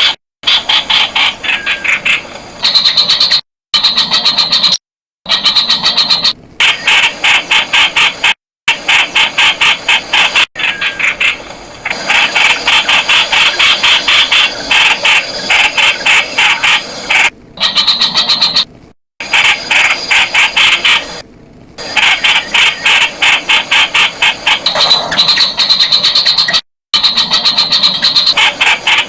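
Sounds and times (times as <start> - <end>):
bird calling harsh repeated notes: 0.0 - 21.2, 21.8 - 29.0.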